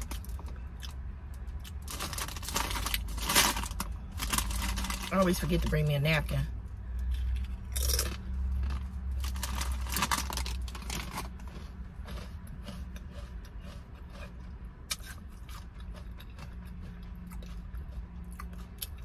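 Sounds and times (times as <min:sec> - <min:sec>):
chips crunching in mouth: 0:01.6 - 0:05.7, 0:07.0 - 0:19.0.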